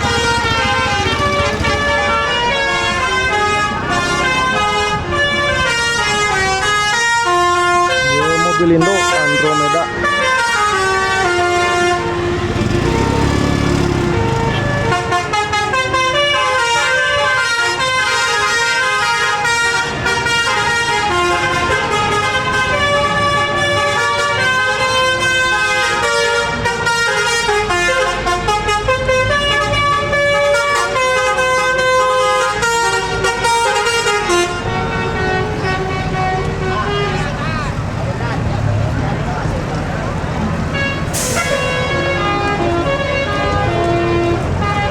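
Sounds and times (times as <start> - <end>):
multi-tone bus horn melody: 0.0 - 38.2, 39.7 - 44.9
bus engine rumbling: 0.0 - 44.9.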